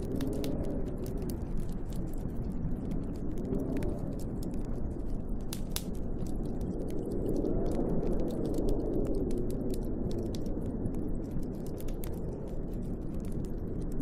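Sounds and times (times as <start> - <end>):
snowstorm wind rushing: 0.0 - 14.0
wood fire crackling and popping: 0.0 - 14.0.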